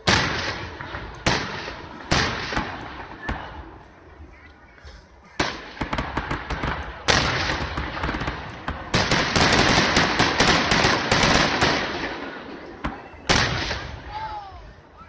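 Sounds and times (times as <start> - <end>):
fireworks booming: 0.0 - 4.3, 5.2 - 14.2
fireworks crackling: 0.0 - 15.0.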